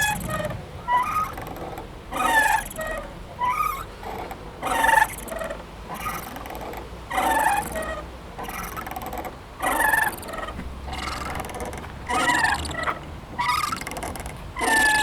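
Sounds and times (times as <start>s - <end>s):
swing squeaking: 0.0s - 15.0s.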